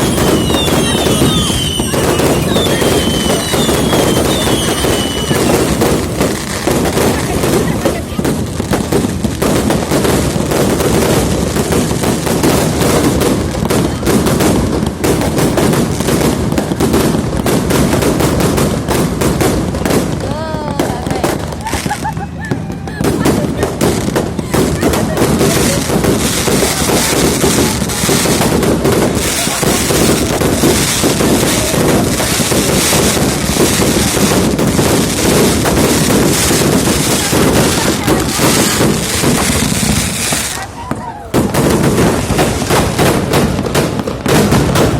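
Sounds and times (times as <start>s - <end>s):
fireworks barrage: 0.0s - 44.9s.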